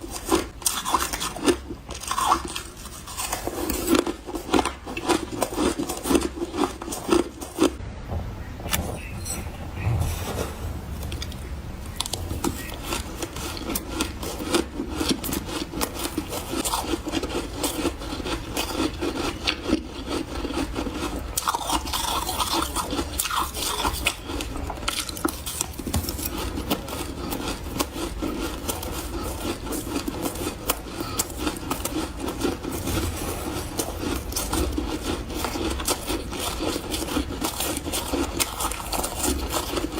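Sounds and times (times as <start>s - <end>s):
ice crunching and rasping: 0.0s - 7.8s, 9.8s - 39.9s.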